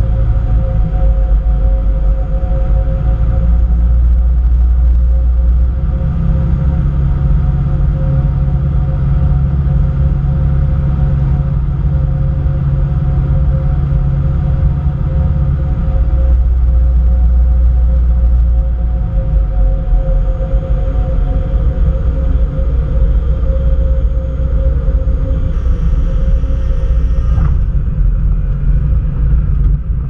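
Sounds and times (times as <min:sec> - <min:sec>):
propeller plane engine droning: 0:00.0 - 0:30.0.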